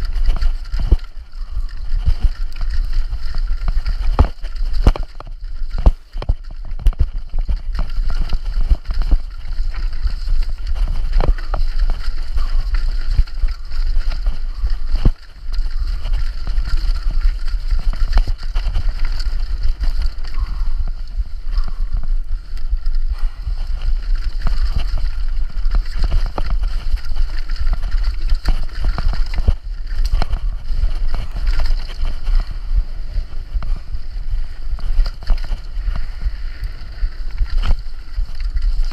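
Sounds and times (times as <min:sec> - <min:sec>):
bike knocking and rattling: 0:00.0 - 0:38.9
bike tyre noise: 0:00.0 - 0:38.9
wind rushing over microphone: 0:00.0 - 0:38.9.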